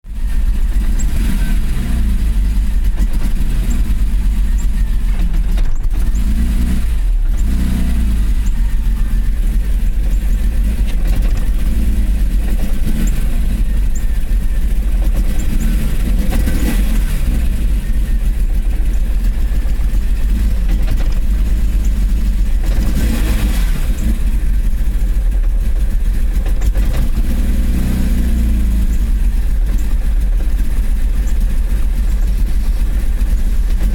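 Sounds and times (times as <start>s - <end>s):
car engine misfiring: 0.1s - 33.9s.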